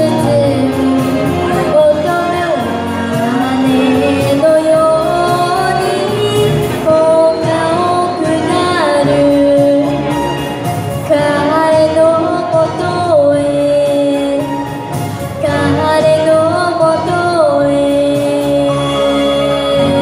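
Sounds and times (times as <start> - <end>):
girl singing into microphone: 0.0 - 10.4, 11.0 - 20.0
karaoke backing track: 0.0 - 20.0.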